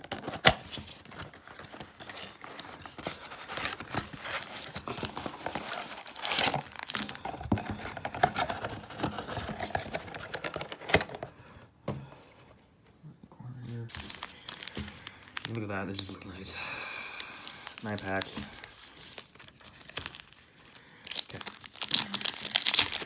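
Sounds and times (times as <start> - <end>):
plastic shrink-wrap crinkling and tearing: 0.0 - 11.3, 13.9 - 23.0.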